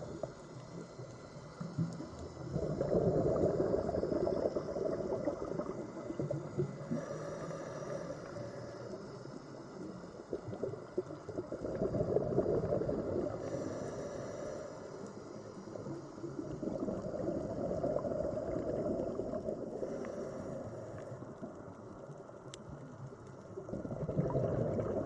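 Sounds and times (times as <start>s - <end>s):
underwater bubbling and gurgling: 0.0s - 25.0s.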